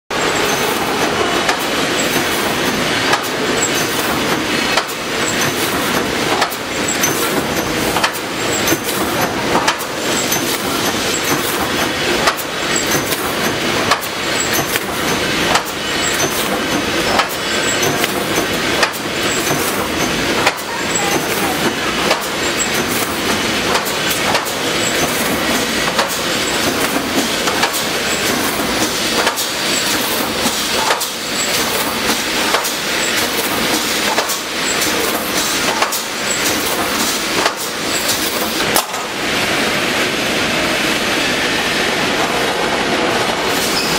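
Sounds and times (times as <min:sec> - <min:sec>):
welding machine clattering: 0:00.1 - 0:39.2
sharp machine knocks: 0:00.2 - 0:39.1.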